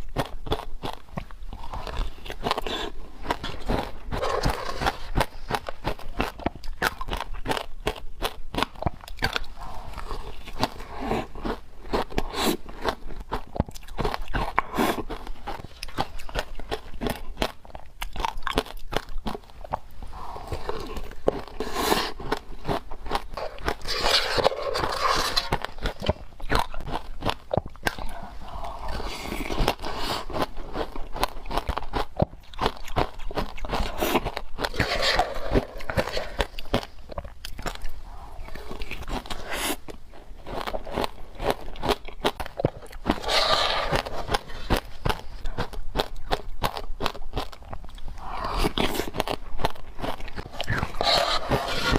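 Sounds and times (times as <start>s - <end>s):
teeth crunching frozen ice: 0.0s - 51.9s.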